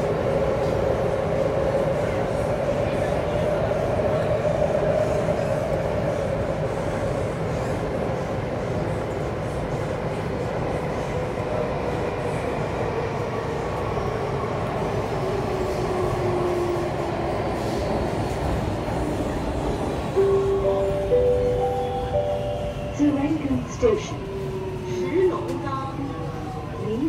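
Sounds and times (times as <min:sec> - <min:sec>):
train rumbling through tunnel: 0:00.0 - 0:27.0.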